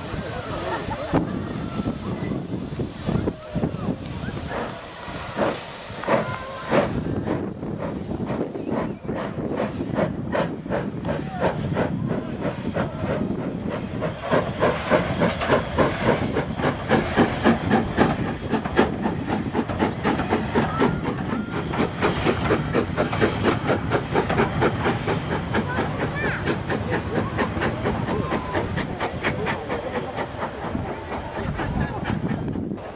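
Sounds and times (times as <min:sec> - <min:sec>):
steam train chugging: 0:00.0 - 0:32.9.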